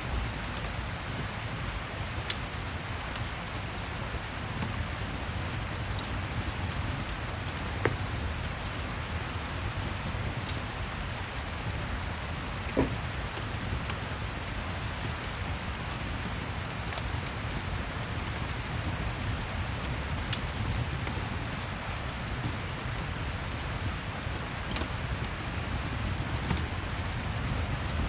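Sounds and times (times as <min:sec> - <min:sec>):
fireplace crackling: 0:00.0 - 0:28.0
steady rain: 0:00.0 - 0:28.0.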